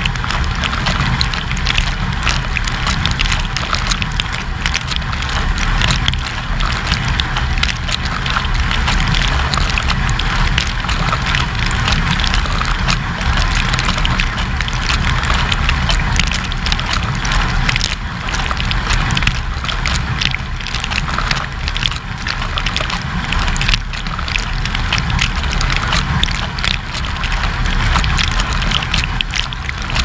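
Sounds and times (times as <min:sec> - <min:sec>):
low pump hum: 0:00.0 - 0:30.0.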